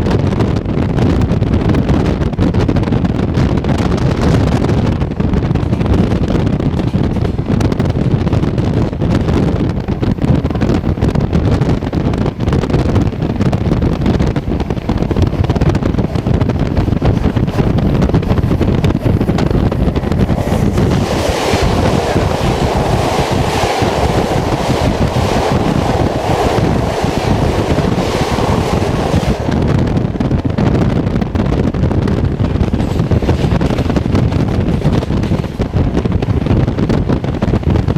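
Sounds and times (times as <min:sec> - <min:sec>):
passing train rushing clatter: 0:00.0 - 0:37.9
train rumbling: 0:00.0 - 0:37.9
wind noise on microphone: 0:00.0 - 0:37.9.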